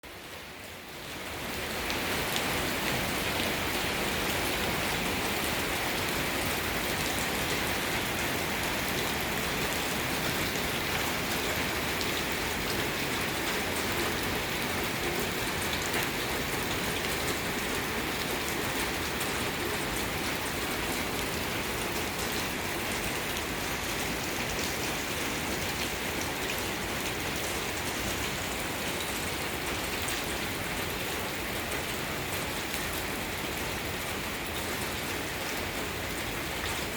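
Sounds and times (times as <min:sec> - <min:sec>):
heavy rain on hard surfaces: 0:00.0 - 0:36.9.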